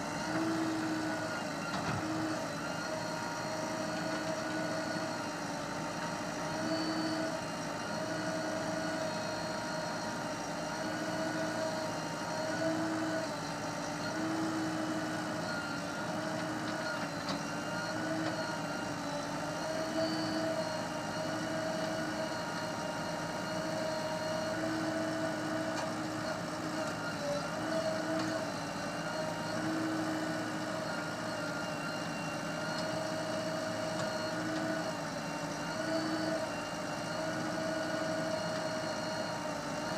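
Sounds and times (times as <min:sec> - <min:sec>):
diesel engine running at low revs: 0:00.0 - 0:39.9.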